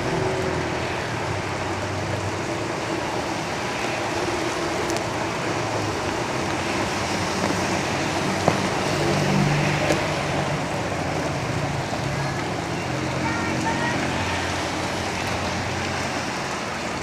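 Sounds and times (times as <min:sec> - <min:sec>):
rain on a tin roof: 0:00.0 - 0:17.0
vehicle engine passing: 0:00.0 - 0:17.0.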